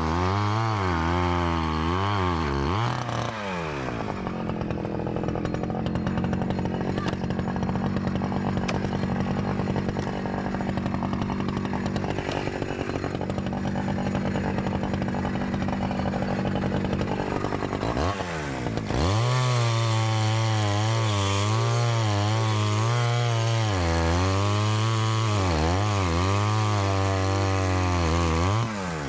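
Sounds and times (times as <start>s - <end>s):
chainsaw cutting log: 0.0s - 29.0s.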